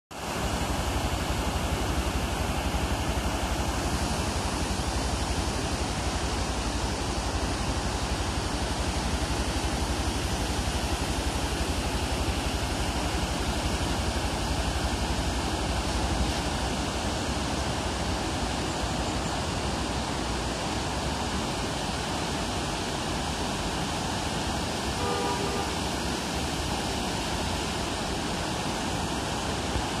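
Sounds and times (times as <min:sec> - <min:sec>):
river rushing through rapids: 0:00.2 - 0:30.0.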